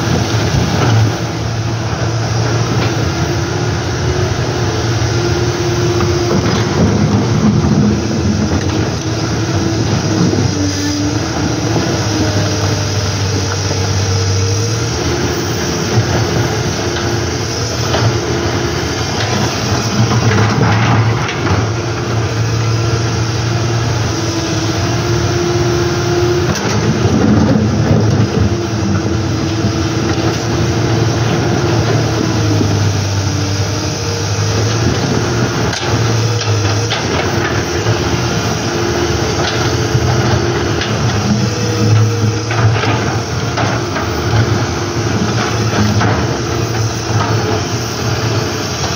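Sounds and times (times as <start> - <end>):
excavator diesel engine running: 0.0 - 48.9
river water rushing: 0.0 - 48.9.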